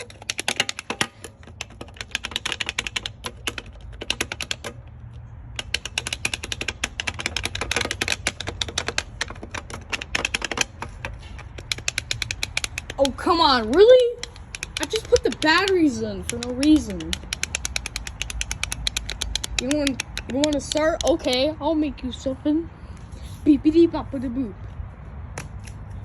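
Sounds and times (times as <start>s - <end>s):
plastic clicking: 0.0s - 21.6s.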